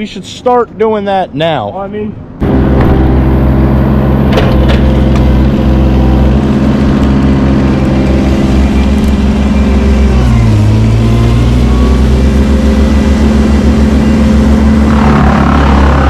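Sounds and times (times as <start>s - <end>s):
heavy engine droning: 2.3s - 16.0s.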